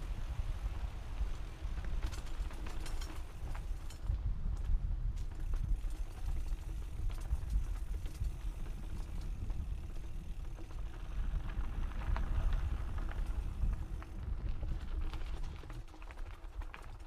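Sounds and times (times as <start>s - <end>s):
bike rumble on dirt trail: 0.0s - 17.0s
bike clicks and rattles: 0.4s - 17.0s.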